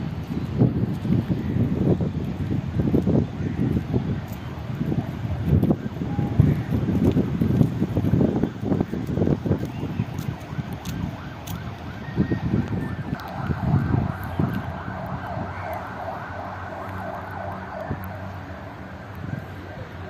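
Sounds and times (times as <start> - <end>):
distant siren rising and falling: 0.0 - 20.0
wind buffeting microphone: 0.0 - 20.0.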